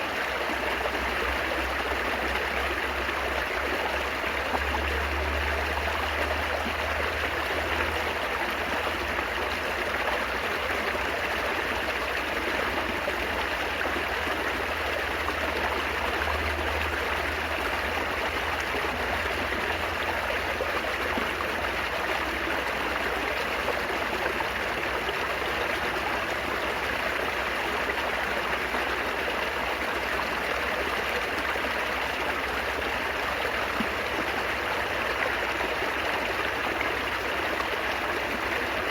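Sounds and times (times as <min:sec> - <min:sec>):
water babbling and trickling: 0:00.0 - 0:38.9.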